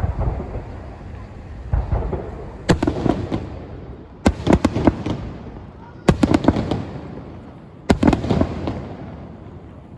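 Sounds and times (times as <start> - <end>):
fireworks booming and cracking: 0.0 - 9.9.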